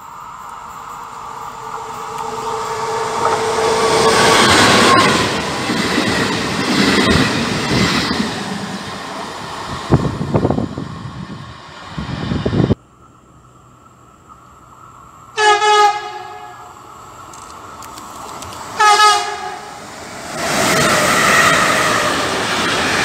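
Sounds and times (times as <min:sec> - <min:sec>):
diesel passenger train passing: 0:00.0 - 0:23.0.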